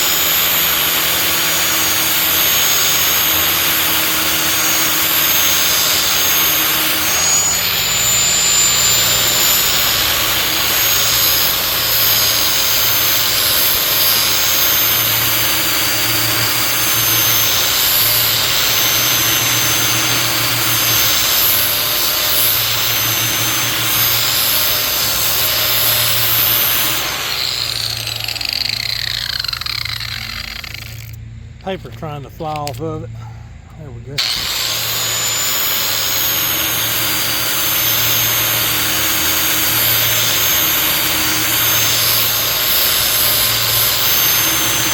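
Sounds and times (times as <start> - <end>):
angle grinder grinding steel: 0.0 - 44.9.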